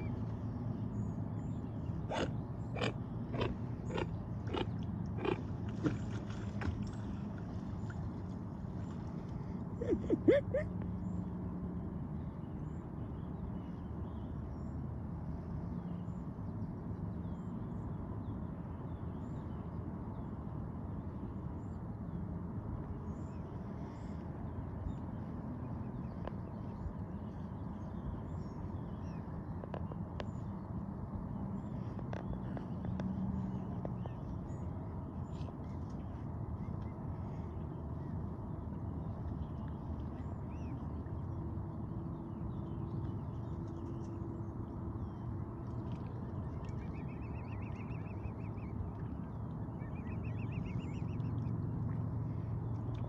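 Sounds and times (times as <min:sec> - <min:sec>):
low outdoor rumble: 0:00.0 - 0:53.0.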